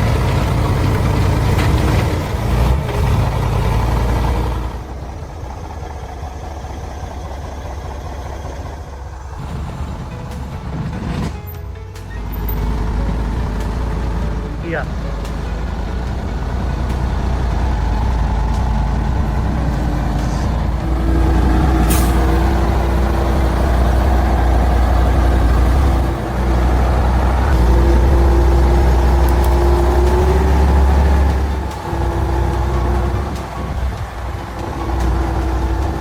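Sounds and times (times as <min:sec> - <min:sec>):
diesel truck engine running hard: 0:00.0 - 0:36.0.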